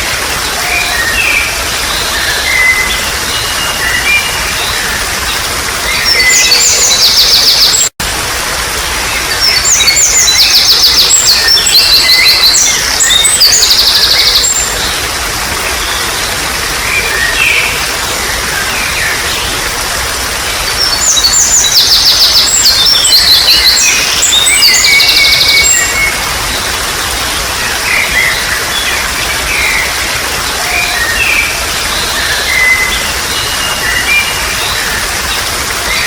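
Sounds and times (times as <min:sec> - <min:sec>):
songbirds calling: 0:00.0 - 0:07.9, 0:09.0 - 0:36.0
water trickling: 0:00.0 - 0:36.0.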